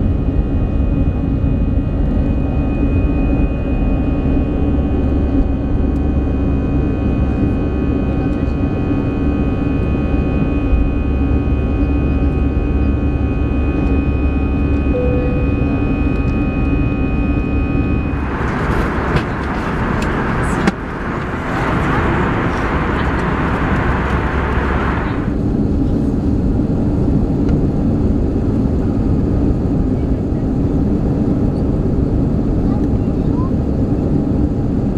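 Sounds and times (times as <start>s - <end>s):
airplane cabin engine hum: 0.0s - 34.9s.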